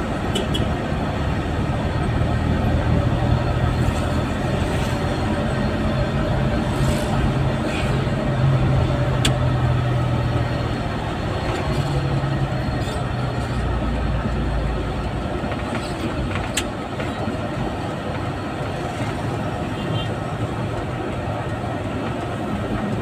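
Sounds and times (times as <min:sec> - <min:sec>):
engine hum: 0:00.0 - 0:23.0
road rumble: 0:00.0 - 0:23.0.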